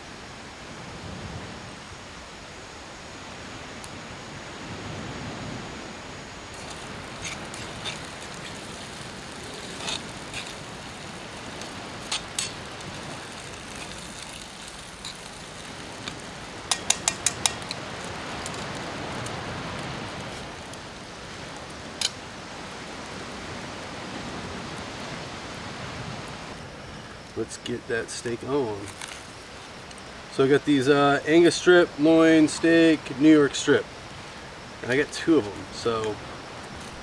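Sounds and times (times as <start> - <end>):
food sizzling in a skillet: 6.5 - 37.0.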